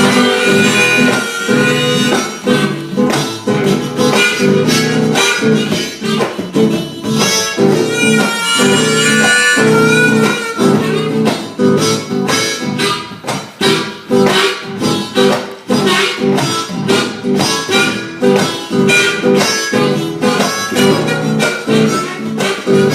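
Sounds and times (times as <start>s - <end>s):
strummed acoustic guitar: 0.0s - 22.9s.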